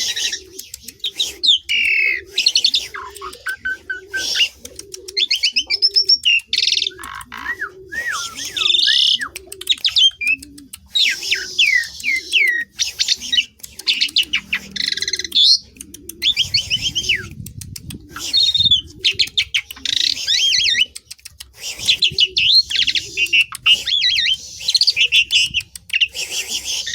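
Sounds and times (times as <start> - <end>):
starling singing: 0.0 - 21.1, 21.8 - 26.9.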